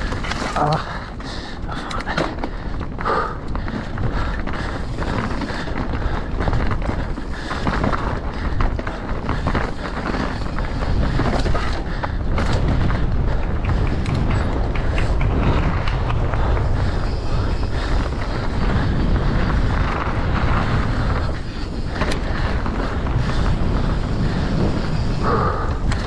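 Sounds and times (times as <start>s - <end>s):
bike rattling and knocking: 0.0s - 26.0s
tyre rumble: 0.0s - 26.0s
wind rush over microphone: 0.0s - 26.0s.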